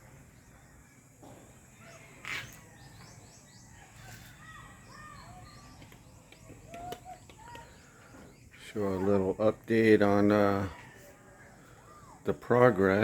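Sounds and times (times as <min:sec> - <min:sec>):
birds chirping faintly: 0:00.0 - 0:13.0
outdoor background noise: 0:00.0 - 0:13.0.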